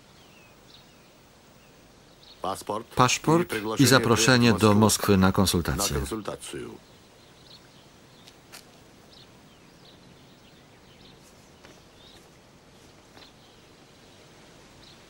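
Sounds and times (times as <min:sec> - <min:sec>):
small birds chirping: 0:00.0 - 0:15.0
steady low hiss: 0:00.0 - 0:15.0.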